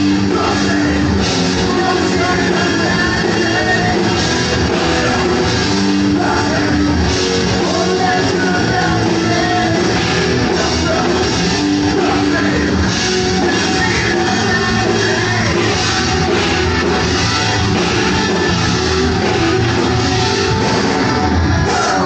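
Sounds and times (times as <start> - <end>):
man singing into microphone: 0.0 - 20.4, 21.6 - 22.0
bass guitar: 0.0 - 22.0
electric guitar: 0.0 - 22.0
punk rock band playing: 0.0 - 22.0.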